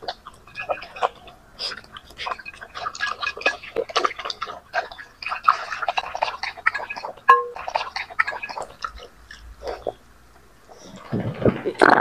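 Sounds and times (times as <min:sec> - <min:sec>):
puppies chewing wet food: 0:00.0 - 0:11.8.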